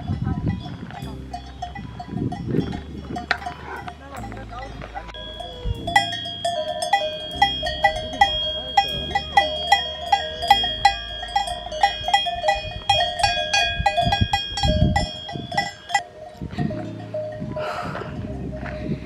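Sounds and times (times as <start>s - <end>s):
cowbells clanking: 0.0s - 19.0s.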